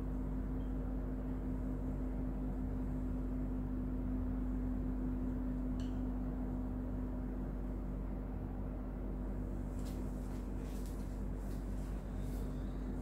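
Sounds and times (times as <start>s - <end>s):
low hum of room noise: 0.0s - 13.0s.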